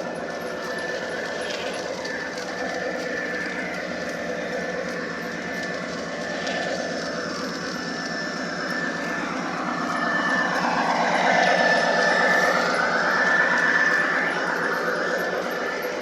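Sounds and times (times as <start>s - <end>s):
model train rumbling: 0.0s - 16.0s.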